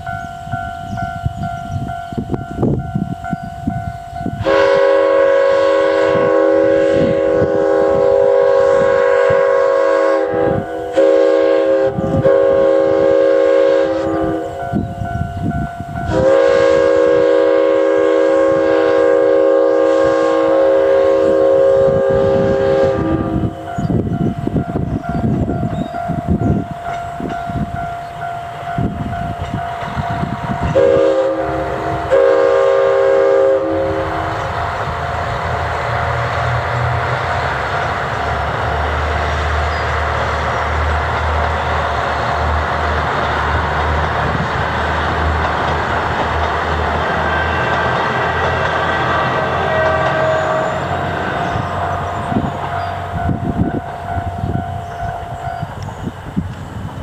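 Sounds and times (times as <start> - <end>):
railcar air horn blasts: 0.0 - 55.9
railcar engine rumble passing: 0.0 - 57.0.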